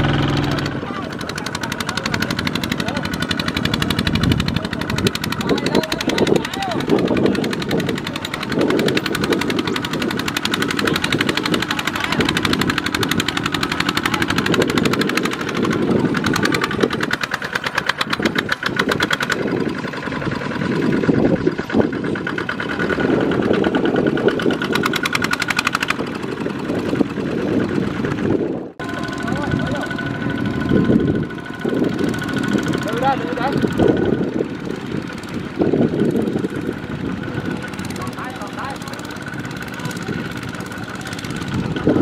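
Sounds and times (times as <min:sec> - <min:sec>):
diesel tractor engine running: 0:00.0 - 0:42.0.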